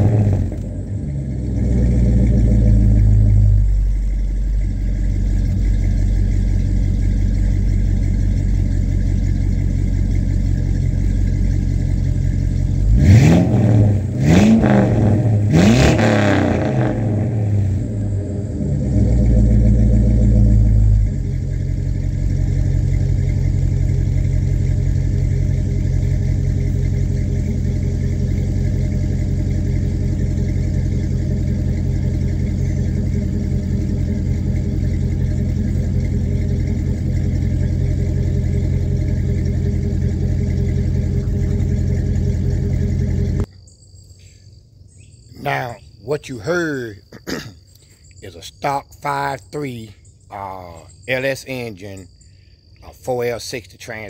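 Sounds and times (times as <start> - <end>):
car engine idling: 0.0 - 54.0
engine throttle blips: 0.0 - 54.0.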